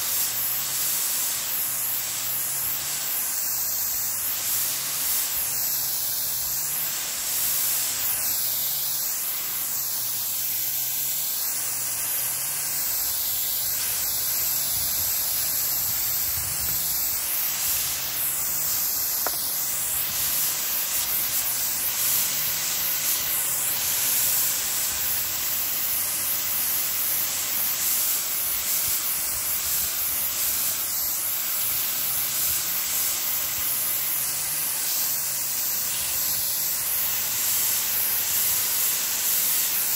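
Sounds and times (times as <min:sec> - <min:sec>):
water spraying from nozzle: 0:00.0 - 0:39.9.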